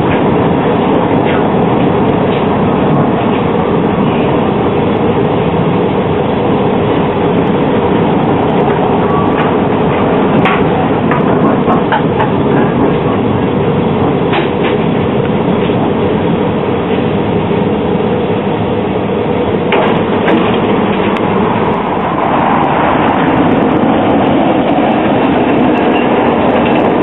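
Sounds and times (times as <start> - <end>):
tram wheels rumbling on rail: 0.0 - 27.0.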